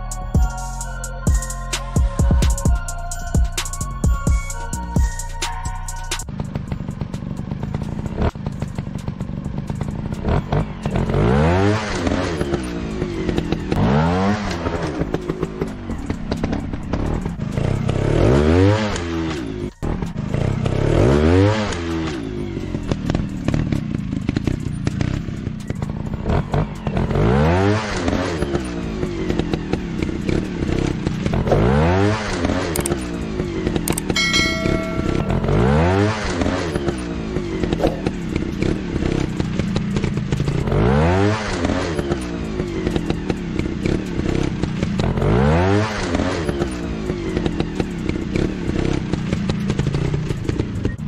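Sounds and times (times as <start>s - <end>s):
dirt bike engines revving: 6.3s - 51.0s.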